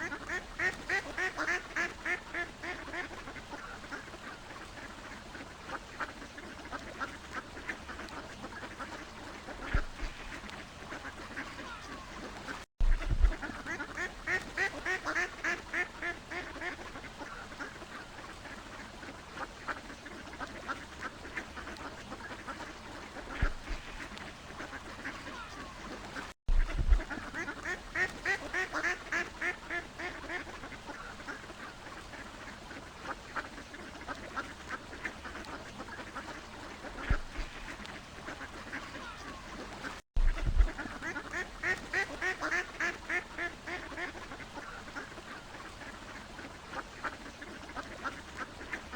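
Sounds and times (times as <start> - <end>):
ducks quacking: 0.0 - 48.9.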